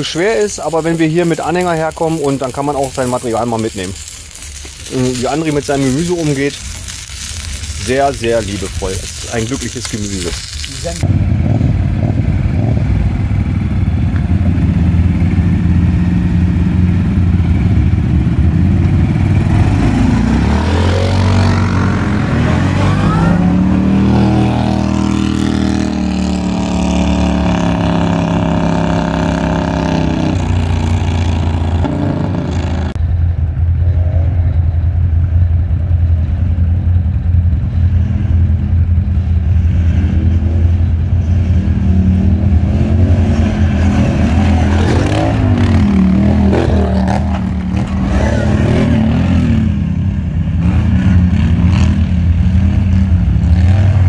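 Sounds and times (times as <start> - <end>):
quad bike engines revving: 0.0 - 33.0, 33.8 - 54.0.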